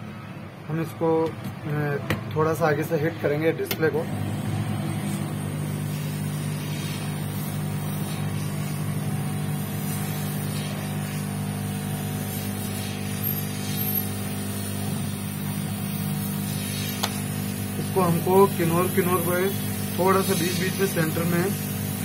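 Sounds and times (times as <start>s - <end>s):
hot air gun blowing: 4.0s - 22.0s.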